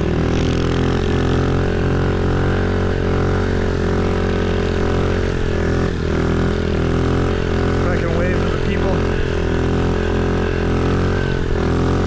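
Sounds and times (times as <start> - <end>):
pit bike engine droning: 0.0 - 12.0.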